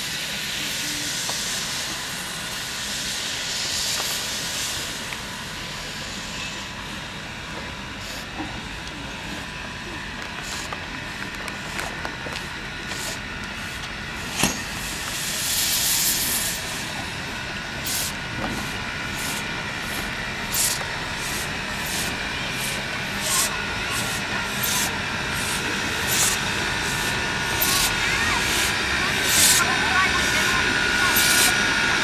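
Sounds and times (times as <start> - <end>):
steam hiss: 0.0 - 32.0
steam locomotive exhaust chuffs: 0.0 - 32.0.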